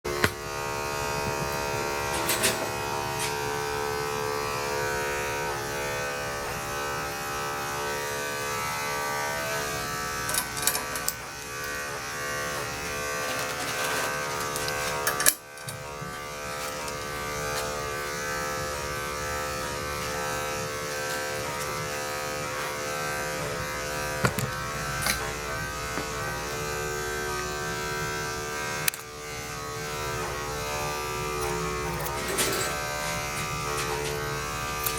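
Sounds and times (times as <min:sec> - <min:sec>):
electric clippers buzzing: 0:00.0 - 0:34.9.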